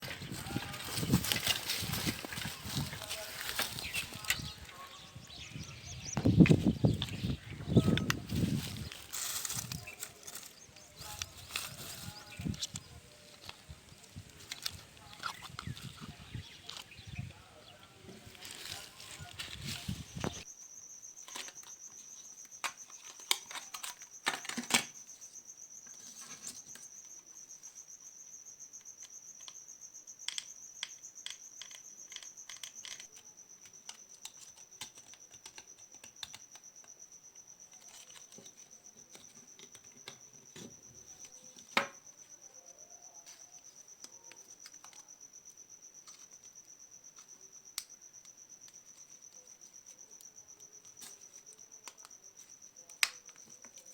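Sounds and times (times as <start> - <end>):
insect trill: 0.0 - 53.9.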